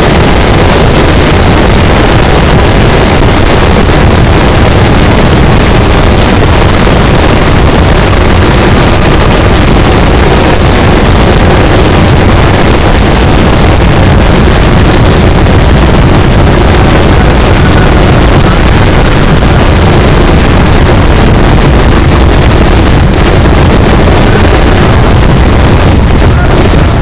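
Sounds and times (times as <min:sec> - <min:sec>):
rapid firecracker blasts: 0:00.0 - 0:27.0.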